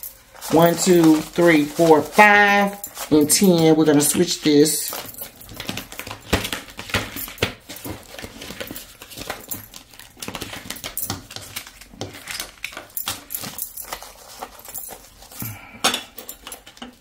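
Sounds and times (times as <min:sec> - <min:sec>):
banknotes rustling: 0:00.0 - 0:17.0.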